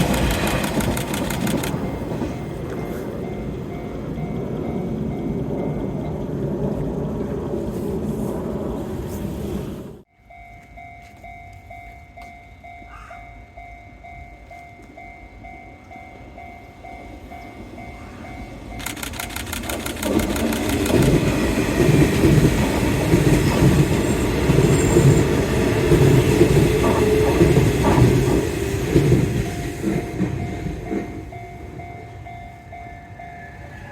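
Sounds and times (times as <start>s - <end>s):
level-crossing warning bell: 0.0s - 6.8s, 10.1s - 33.9s
electric train rumble and wheel clatter: 0.0s - 33.9s.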